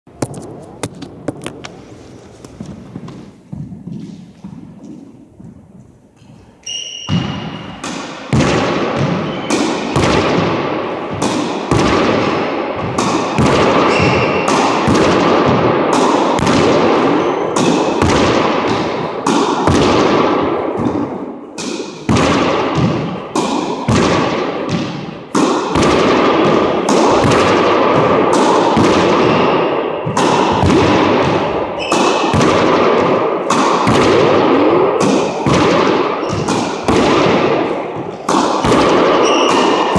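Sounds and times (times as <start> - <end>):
racquetball smacks echoing: 0.2 - 39.9.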